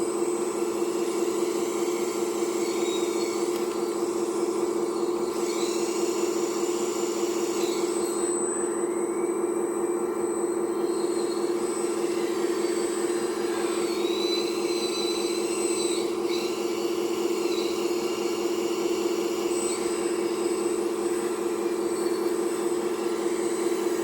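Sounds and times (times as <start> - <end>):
hydraulic pump electric hum: 0.0 - 24.0.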